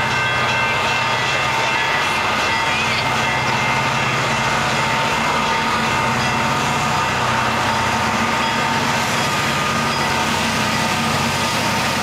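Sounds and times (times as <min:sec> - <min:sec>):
diesel locomotive engines running: 0:00.0 - 0:12.0
wheels rumbling on rails: 0:00.0 - 0:12.0.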